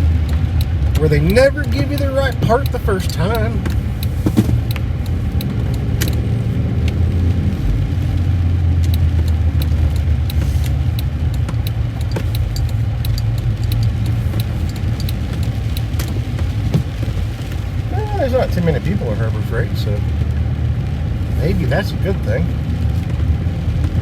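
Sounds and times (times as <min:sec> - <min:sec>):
engine and road rumble: 0:00.0 - 0:24.0
light ticks and rattles: 0:00.0 - 0:24.0.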